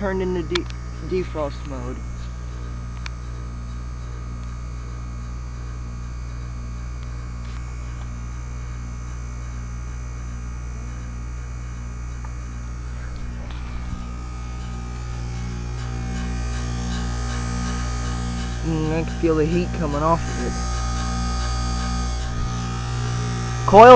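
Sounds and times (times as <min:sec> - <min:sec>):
heat pump humming: 0:00.0 - 0:23.9.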